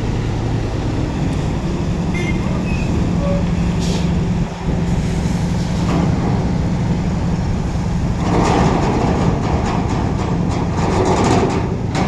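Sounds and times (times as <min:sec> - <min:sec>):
diesel truck engine humming: 0:00.0 - 0:12.0.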